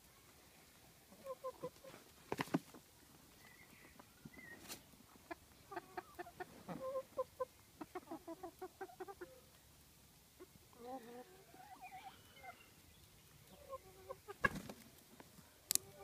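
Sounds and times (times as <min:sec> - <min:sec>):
chickens clucking: 0:01.0 - 0:16.0.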